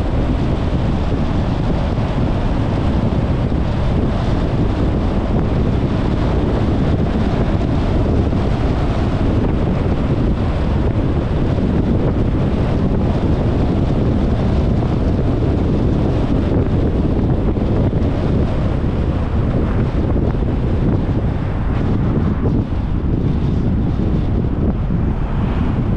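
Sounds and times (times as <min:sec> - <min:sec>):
road and vehicle noise: 0:00.0 - 0:25.9
wind rumble on microphone: 0:00.0 - 0:25.9.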